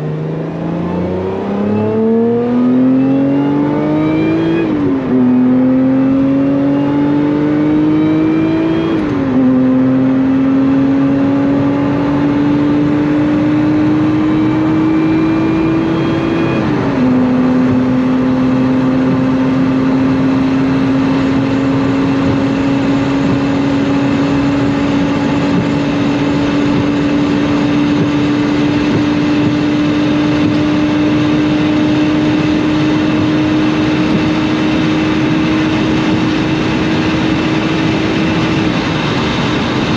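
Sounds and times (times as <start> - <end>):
car engine accelerating: 0.0 - 39.9
road and wind noise: 0.0 - 39.9.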